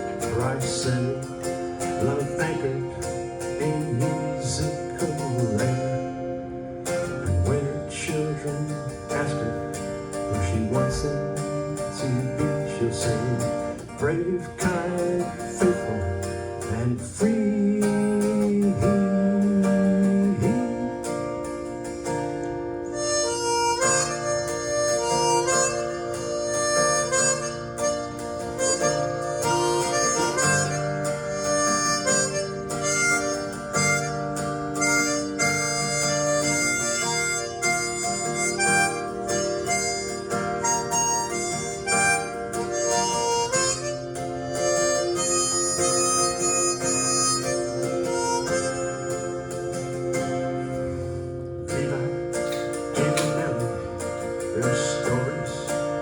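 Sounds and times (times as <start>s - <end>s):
harmonica melody: 0.0s - 56.0s
strummed acoustic guitar: 0.0s - 56.0s.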